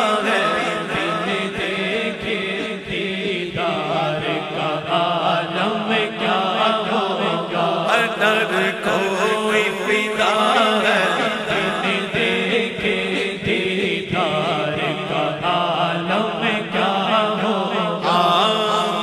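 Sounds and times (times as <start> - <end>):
men chanting: 0.0 - 19.0
sustained vocal drone: 0.0 - 19.0.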